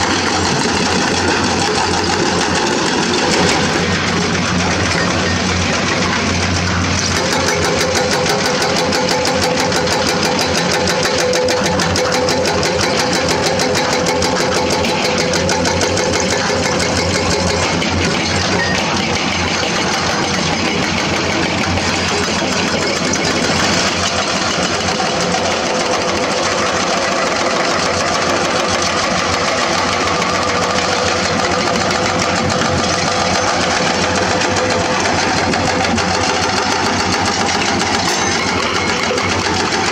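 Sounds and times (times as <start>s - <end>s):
diesel engines droning: 0.0s - 39.9s
hydraulic rock breakers hammering: 0.0s - 39.9s.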